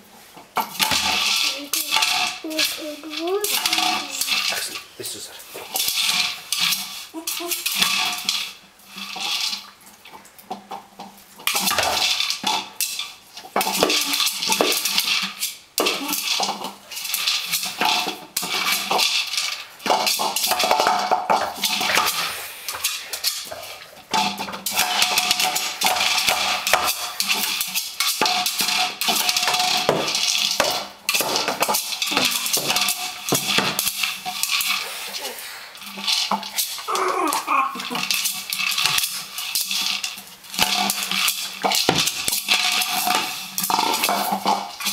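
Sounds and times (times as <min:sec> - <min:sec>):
plastic toy clattering on tiles: 0:00.5 - 0:04.8, 0:05.7 - 0:09.7, 0:10.4 - 0:34.9, 0:35.8 - 0:44.9
treats rattling in plastic toy: 0:00.6 - 0:09.7, 0:11.0 - 0:44.9.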